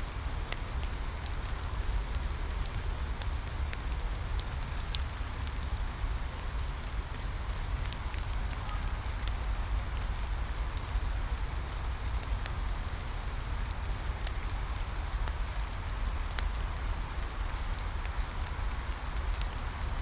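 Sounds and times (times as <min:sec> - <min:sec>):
steady rain falling: 0:00.0 - 0:20.0
bonfire crackling: 0:00.1 - 0:20.0.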